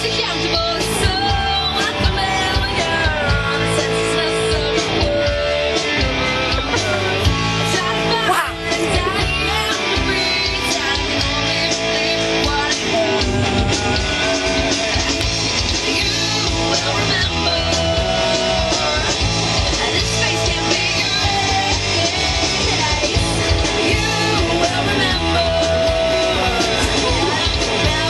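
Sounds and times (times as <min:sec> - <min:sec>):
punk rock song: 0:00.0 - 0:28.0.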